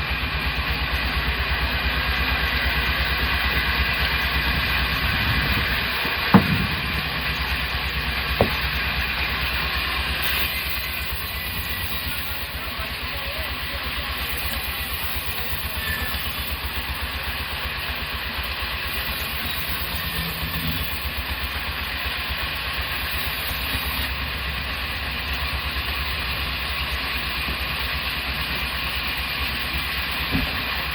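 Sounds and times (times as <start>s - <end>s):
sawmill machinery drone: 0.0s - 30.9s.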